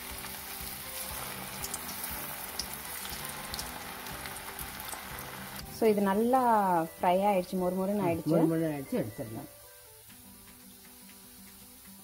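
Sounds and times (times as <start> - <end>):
oil sizzling while deep-frying: 0.0 - 12.0
sharp crackles of frying: 0.0 - 12.0.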